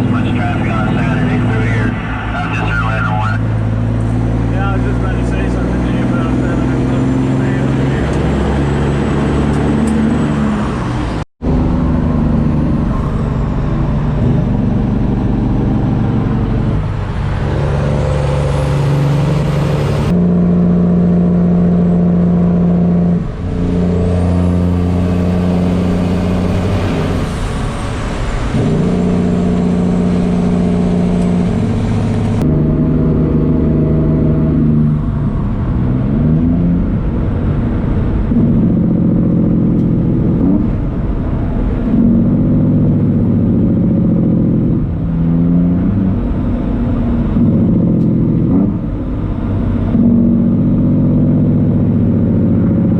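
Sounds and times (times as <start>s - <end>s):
truck diesel engine under load: 0.0s - 52.9s.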